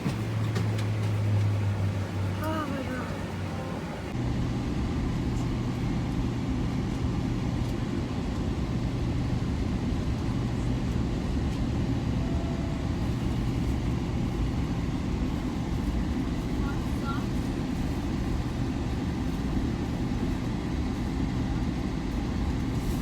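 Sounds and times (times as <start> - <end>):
vehicle rumble from inside: 0.0 - 23.0.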